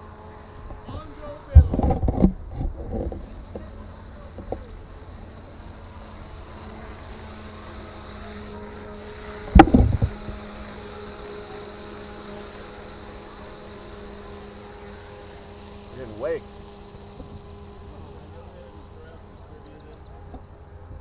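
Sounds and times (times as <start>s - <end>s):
motorboat engine drone: 0.0s - 21.0s.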